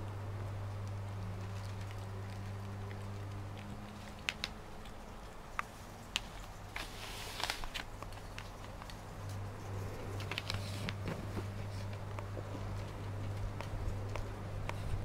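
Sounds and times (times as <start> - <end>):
low steady hum: 0.0 - 15.0
paws rustling newspaper: 0.4 - 15.0.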